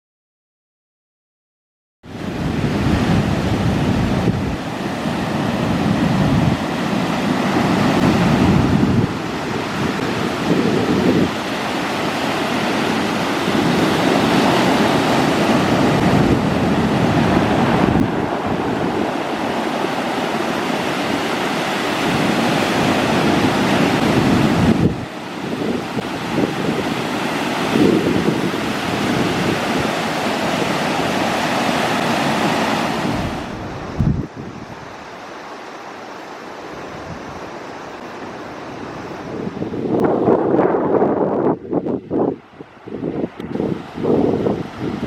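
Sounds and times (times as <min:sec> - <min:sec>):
surf rushing: 0:02.1 - 0:45.0
wind gusting on microphone: 0:02.1 - 0:45.0.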